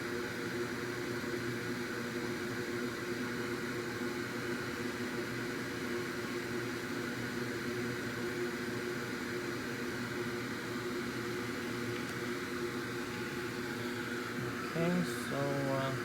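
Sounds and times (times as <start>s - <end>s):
small electric fan whirring: 0.0s - 16.0s.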